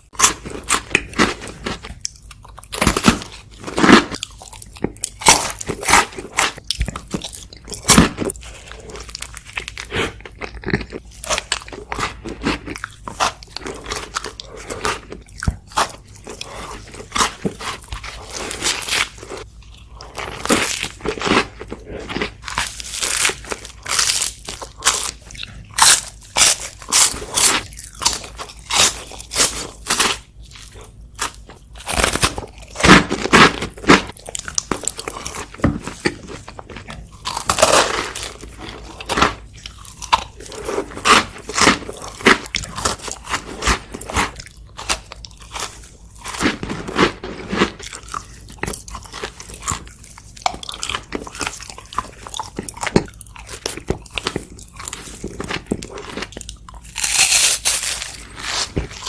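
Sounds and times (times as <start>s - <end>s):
crunchy chewing of sweets: 0.0s - 59.0s.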